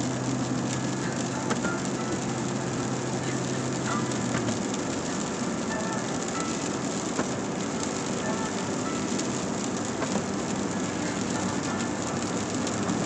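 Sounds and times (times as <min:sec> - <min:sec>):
light rain on windshield: 0:00.0 - 0:13.0
tyre and road noise: 0:00.0 - 0:13.0.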